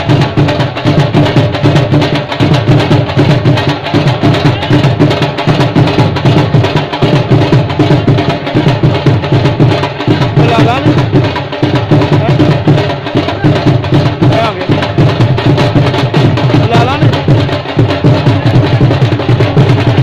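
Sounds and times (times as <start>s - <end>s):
loud drum-driven music: 0.0s - 20.0s.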